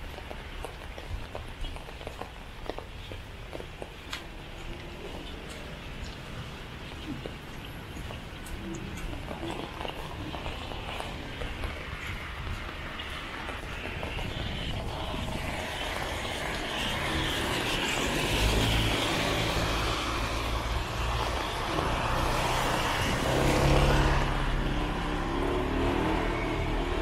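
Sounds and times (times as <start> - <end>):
tyres swishing on wet road: 0.0 - 27.0.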